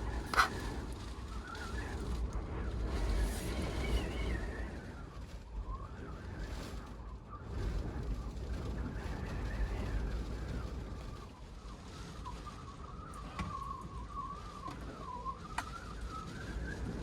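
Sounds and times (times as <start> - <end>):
thin wind whistle: 0.0 - 8.0, 8.7 - 17.0
storm wind buffeting a van: 0.0 - 17.0.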